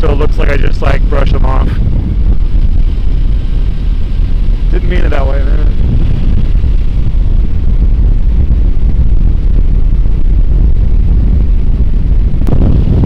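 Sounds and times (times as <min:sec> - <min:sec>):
wind buffeting microphone: 0:00.0 - 0:13.0
motorcycle engine running: 0:01.8 - 0:13.0.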